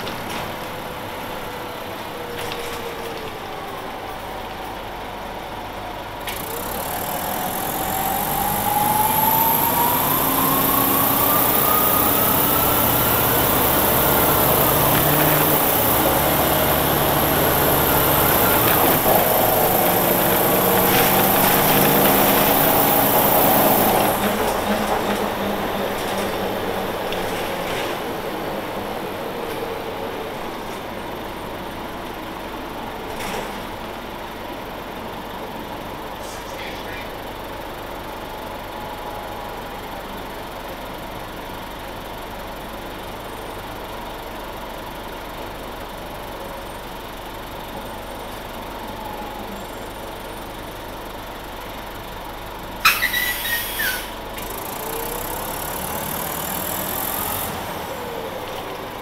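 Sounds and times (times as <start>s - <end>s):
bus accelerating: 0.0s - 59.0s.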